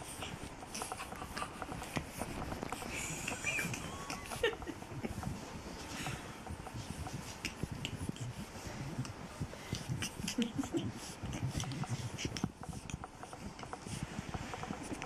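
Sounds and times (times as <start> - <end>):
puppies snuffling: 0.0 - 15.0.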